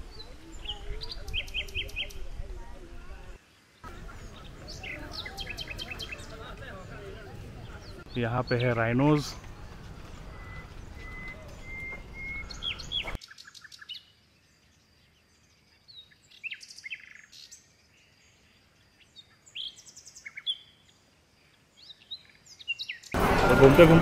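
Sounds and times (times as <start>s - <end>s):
birds chirping: 0.0s - 24.0s
steady outdoor noise: 0.0s - 24.0s.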